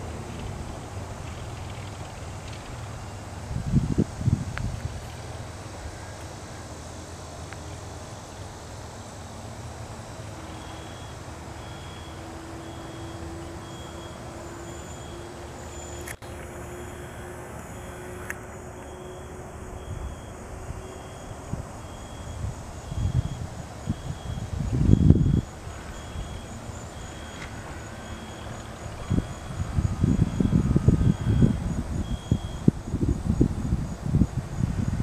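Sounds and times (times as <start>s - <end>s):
distant airplane engine drone: 0.0s - 35.0s.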